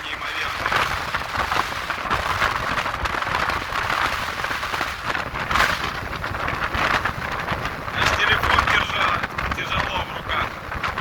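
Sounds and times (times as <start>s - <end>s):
sea waves breaking on shore: 0.0s - 11.0s
wind rumbling on microphone: 0.0s - 11.0s.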